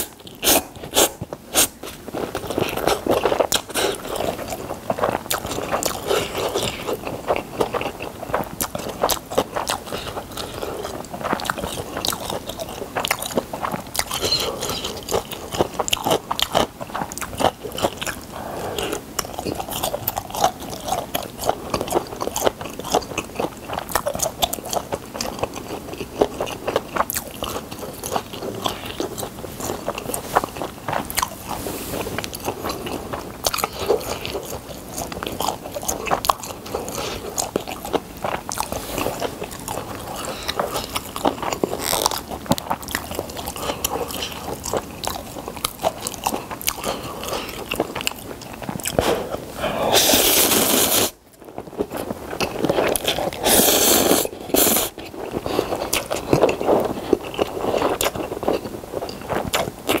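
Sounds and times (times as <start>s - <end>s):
dumpling bitten and chewed: 0.0s - 60.0s.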